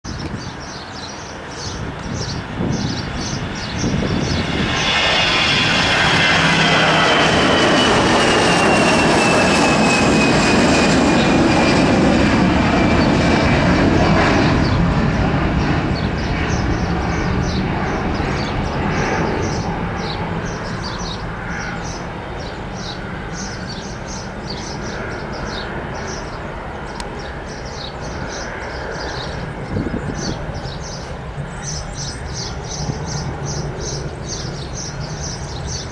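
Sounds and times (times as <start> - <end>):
jet engines rumbling and whining: 0.1 - 35.9.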